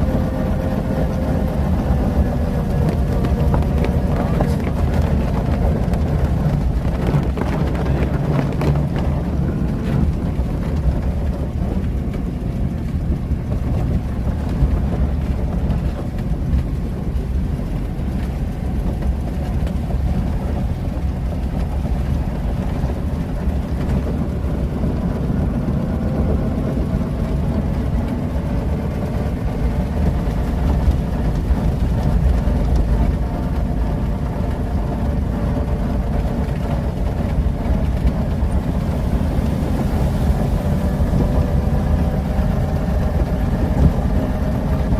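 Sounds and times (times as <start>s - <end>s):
car engine rumbling: 0.0s - 44.9s.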